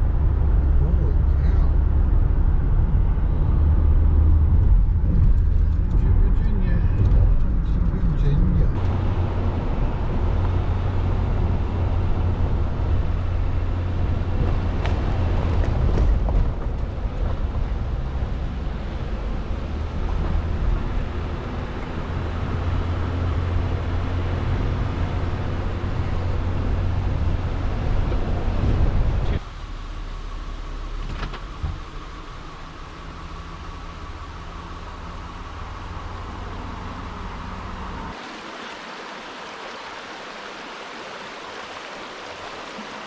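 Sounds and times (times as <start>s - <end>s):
car engine rumble: 0.0s - 43.0s.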